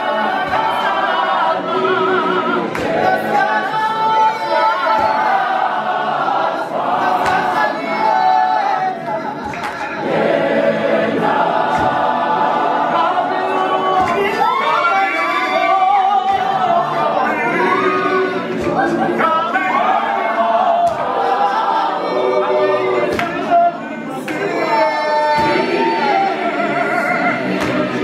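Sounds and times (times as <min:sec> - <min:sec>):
gospel choir singing a cappella: 0:00.0 - 0:28.0.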